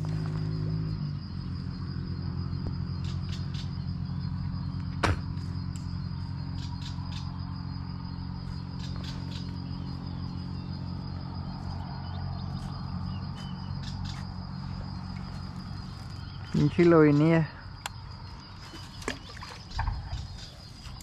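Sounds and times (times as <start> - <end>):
crickets trilling: 0.0 - 21.0
steady low hum: 0.0 - 21.0.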